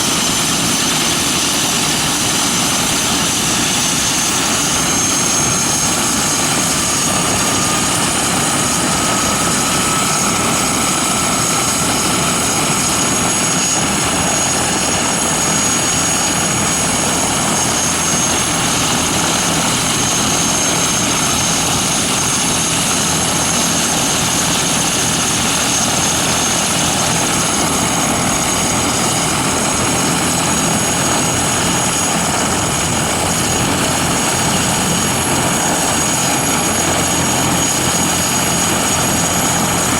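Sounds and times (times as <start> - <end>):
helicopter rotor rushing: 0.0 - 39.9
high turbine whine: 0.0 - 39.9.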